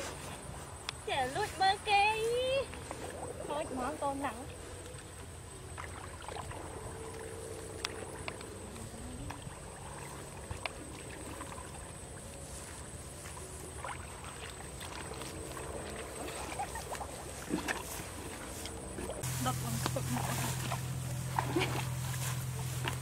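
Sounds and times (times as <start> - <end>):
footsteps wading through muddy water: 0.0 - 23.0.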